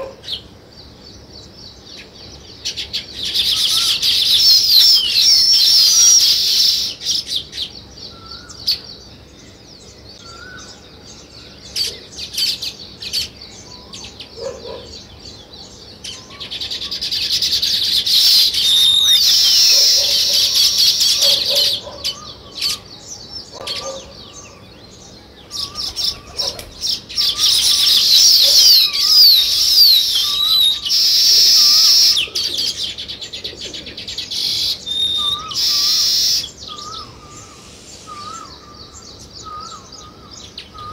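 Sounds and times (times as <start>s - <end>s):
sparrows chirping: 0.0s - 40.9s.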